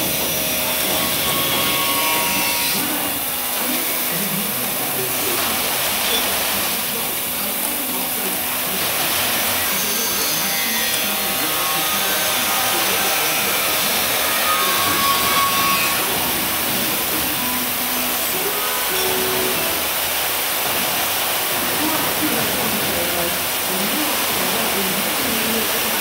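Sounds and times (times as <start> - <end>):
machinery hissing and droning: 0.0 - 26.0.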